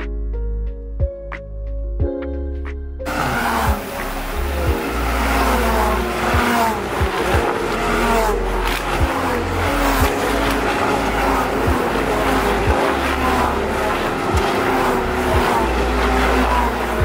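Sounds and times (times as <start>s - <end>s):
race cars passing at speed: 3.1s - 17.0s.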